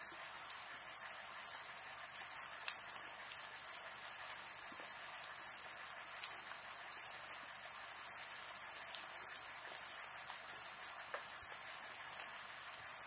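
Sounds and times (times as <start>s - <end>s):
even hiss: 0.0s - 13.0s
insects chirping: 0.0s - 13.0s.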